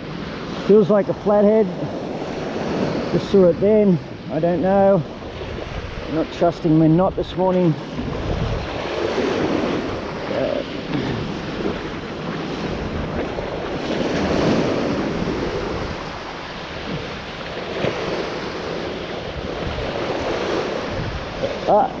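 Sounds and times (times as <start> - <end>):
rushing water: 0.0 - 22.0
wind buffeting microphone: 0.0 - 22.0.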